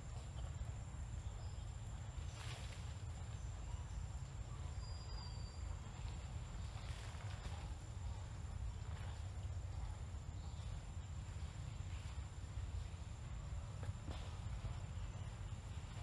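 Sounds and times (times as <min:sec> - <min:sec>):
insect drone: 0:00.0 - 0:16.0
leaves and branches rustling: 0:00.0 - 0:16.0.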